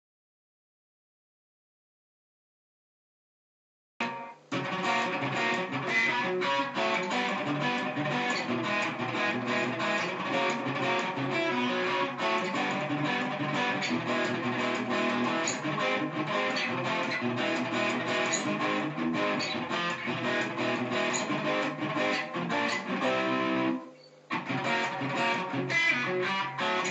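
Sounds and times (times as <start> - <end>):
plucked and strummed guitar: 4.0 - 26.9.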